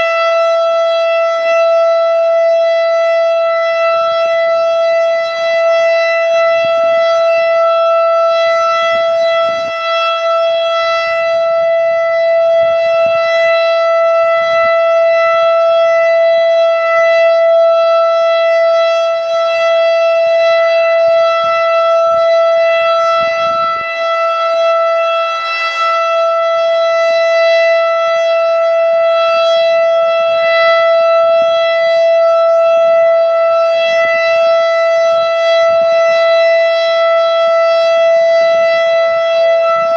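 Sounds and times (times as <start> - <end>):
mechanical warning siren steady tone: 0.0 - 39.9.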